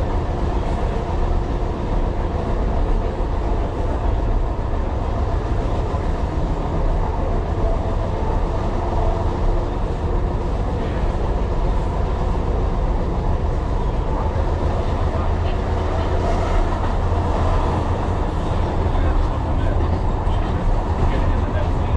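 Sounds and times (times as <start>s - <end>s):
train wheels rumbling on track: 0.0s - 21.9s.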